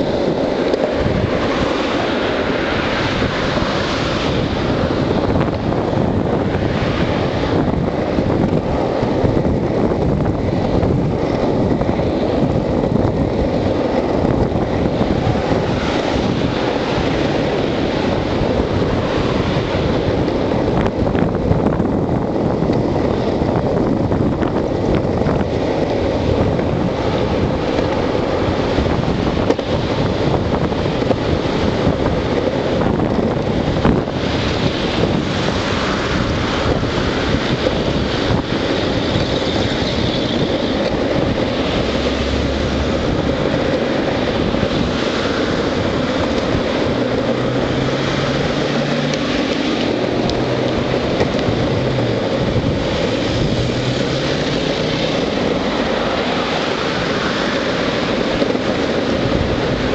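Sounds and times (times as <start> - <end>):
longboard wheels rolling on asphalt: 0.0 - 59.9
wind noise on microphone: 0.0 - 59.9.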